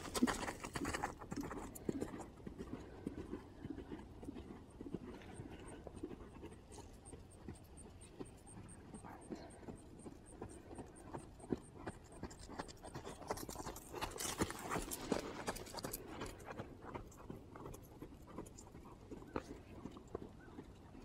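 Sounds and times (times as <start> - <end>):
muffled hoofbeats on sand: 0.0 - 21.0.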